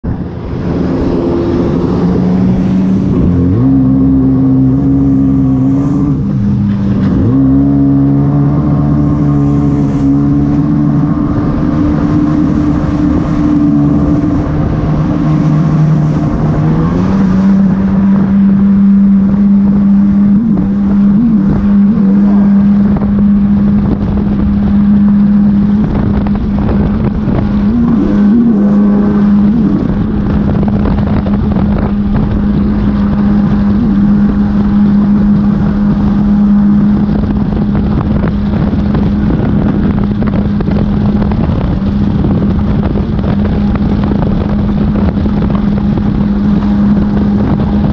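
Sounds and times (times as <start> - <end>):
jet ski engine humming: 0.0 - 47.9
rushing water wash: 0.0 - 47.9.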